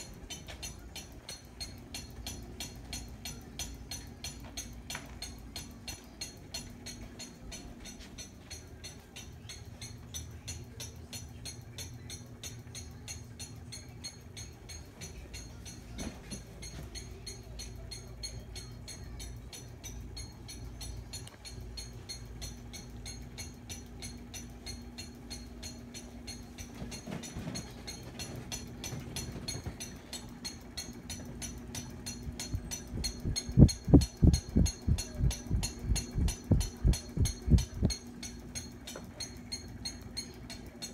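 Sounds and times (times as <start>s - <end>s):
ceiling fan humming and ticking: 0.0s - 40.9s.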